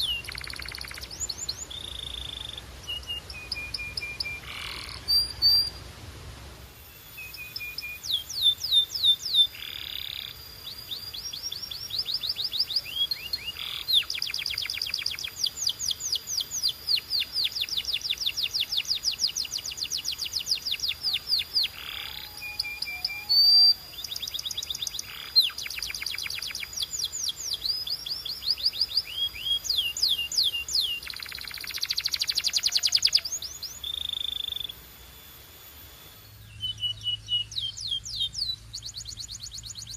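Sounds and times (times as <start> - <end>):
canary singing trills: 0.0 - 5.8, 6.8 - 39.9.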